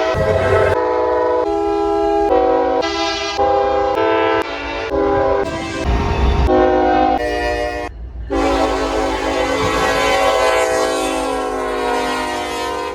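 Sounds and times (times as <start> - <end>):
train air horn blasts: 0.0 - 12.9.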